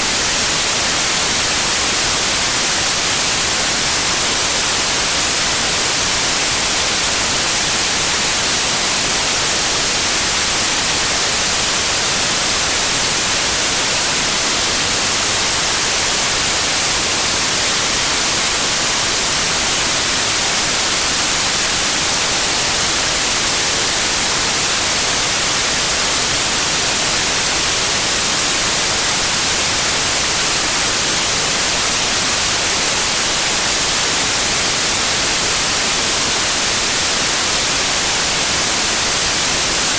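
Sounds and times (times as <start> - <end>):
constant even hiss: 0.0 - 39.9.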